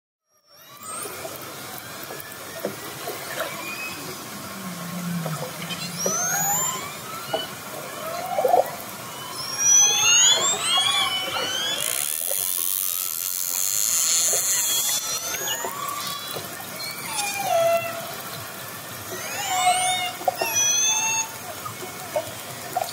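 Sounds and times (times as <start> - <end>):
orca whistles and calls underwater: 0.5 - 22.9.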